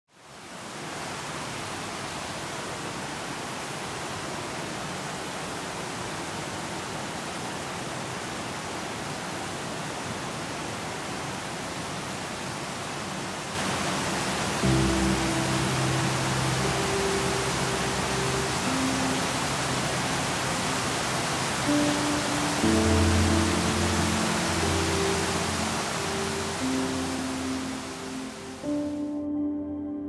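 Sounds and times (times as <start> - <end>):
stream rushing over rocks: 0.1 - 29.1.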